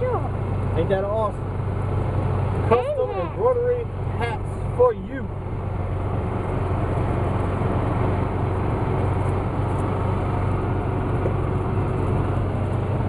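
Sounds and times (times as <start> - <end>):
golf cart riding: 0.0 - 13.0.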